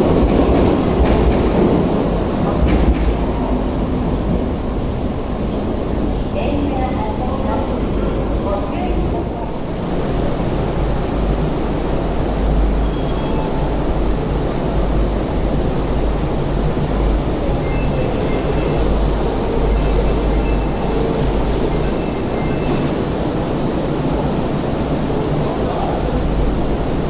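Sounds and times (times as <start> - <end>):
low rumble of train and station: 0.0 - 27.0.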